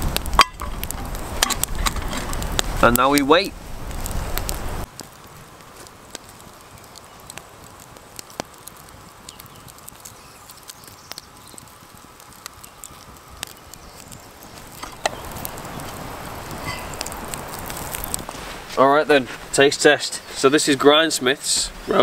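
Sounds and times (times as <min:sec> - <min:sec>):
campfire embers crackling: 0:00.0 - 0:22.0.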